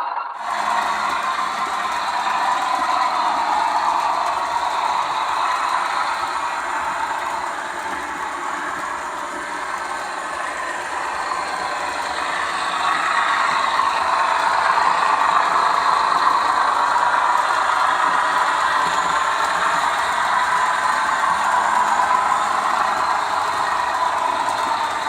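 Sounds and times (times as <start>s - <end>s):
model train running on track: 0.0s - 25.0s.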